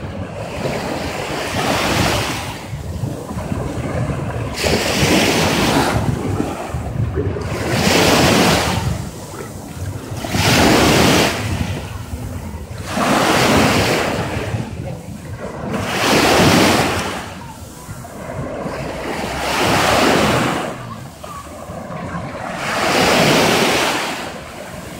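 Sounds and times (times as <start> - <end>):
small waves breaking on sand: 0.0 - 24.9
wind on microphone: 0.0 - 24.9.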